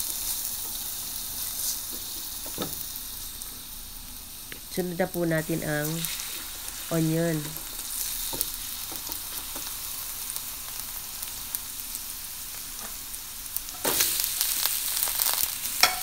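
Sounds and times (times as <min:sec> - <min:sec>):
garlic sizzling in hot oil: 0:00.0 - 0:16.0
onions crackling in oil: 0:00.0 - 0:16.0.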